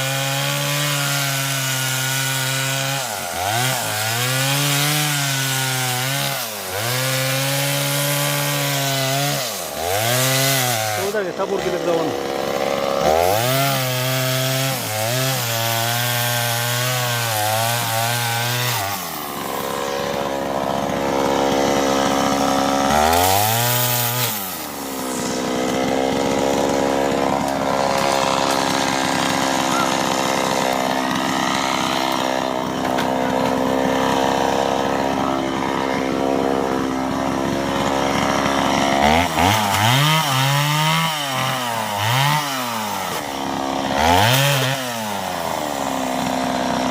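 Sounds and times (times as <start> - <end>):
chainsaw revving: 0.0 - 46.9.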